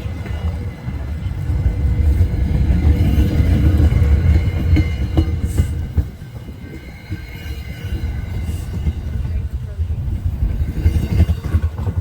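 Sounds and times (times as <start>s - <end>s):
train rumbling by: 0.0s - 12.0s.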